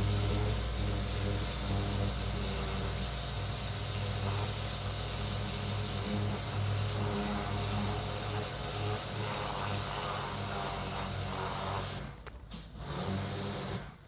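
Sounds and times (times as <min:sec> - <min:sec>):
pump motor hum: 0:00.0 - 0:13.8
pressure washer spraying water: 0:00.0 - 0:14.0.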